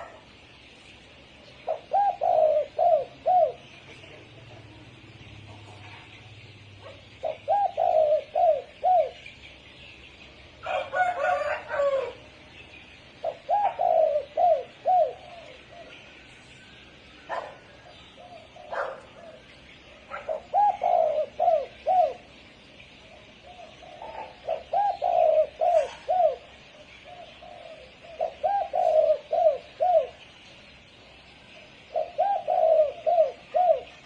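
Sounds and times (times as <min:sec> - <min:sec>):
dove cooing: 0:00.0 - 0:00.4, 0:01.5 - 0:09.4, 0:10.6 - 0:12.3, 0:13.2 - 0:16.2, 0:17.2 - 0:22.4, 0:23.0 - 0:30.2, 0:31.6 - 0:34.0
rough noisy bird call: 0:00.0 - 0:34.0.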